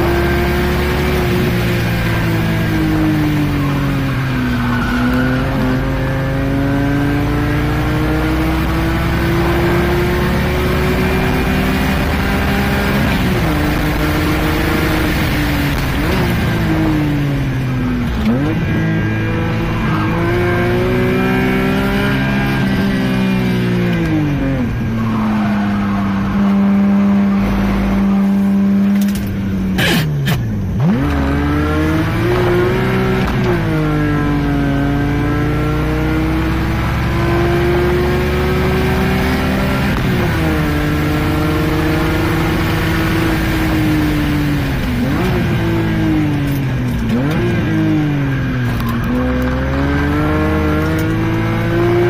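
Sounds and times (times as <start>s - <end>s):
car engine revving at full throttle: 0.0s - 52.0s.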